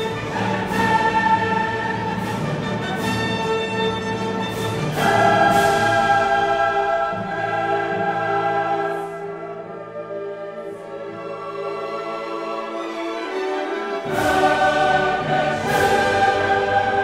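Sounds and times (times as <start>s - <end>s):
choir with orchestra: 0.0s - 17.0s.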